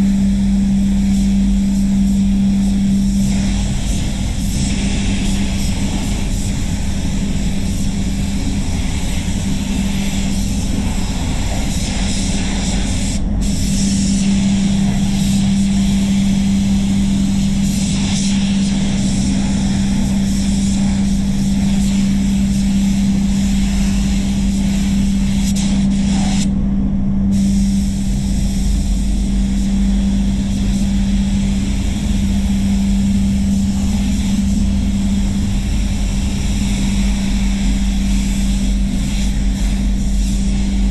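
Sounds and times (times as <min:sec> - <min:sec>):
spray booth humming: 0:00.0 - 0:26.5, 0:27.3 - 0:40.9
spray gun hissing: 0:00.0 - 0:26.5, 0:27.3 - 0:40.9.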